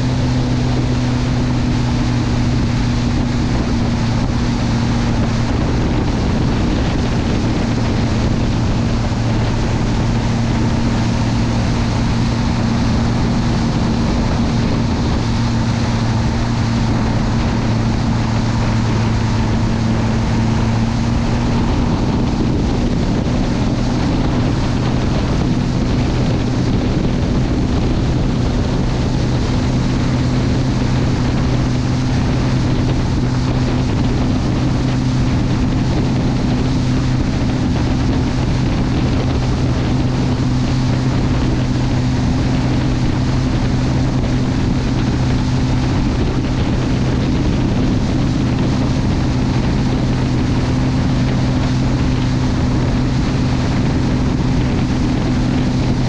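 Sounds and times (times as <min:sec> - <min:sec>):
boat engine droning: 0:00.0 - 0:56.0
water spray and wake hiss: 0:00.0 - 0:56.0
wind on microphone: 0:00.0 - 0:56.0.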